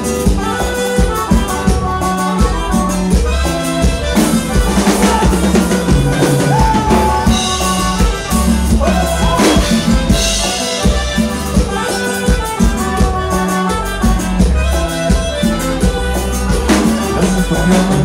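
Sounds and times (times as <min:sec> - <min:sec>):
band playing dance music: 0:00.0 - 0:18.0
bass line: 0:00.0 - 0:18.0
drum kit beat: 0:00.0 - 0:18.0.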